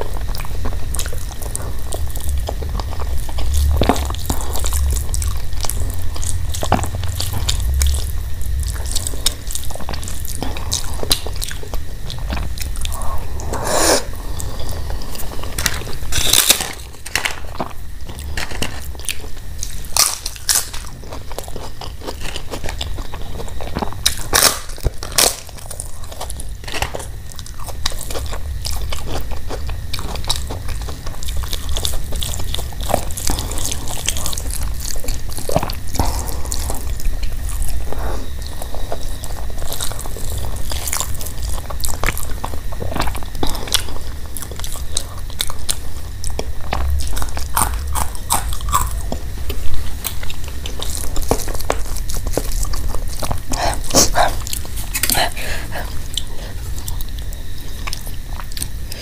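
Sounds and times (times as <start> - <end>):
crunchy chewing and biting: 0.0 - 59.0.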